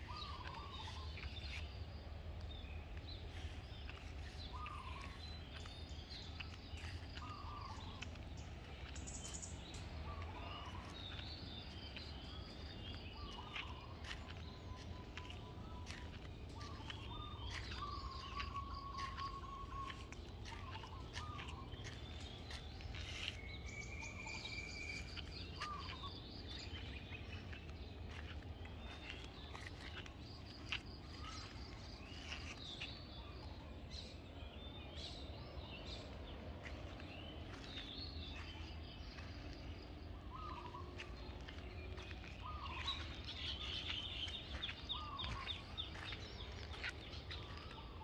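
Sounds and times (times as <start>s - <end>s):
birds chirping and whistling: 0.0s - 48.0s
low background rumble: 0.0s - 48.0s.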